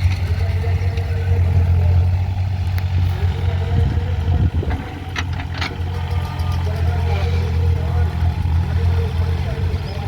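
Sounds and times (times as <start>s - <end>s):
digger diesel engine droning: 0.0s - 10.0s.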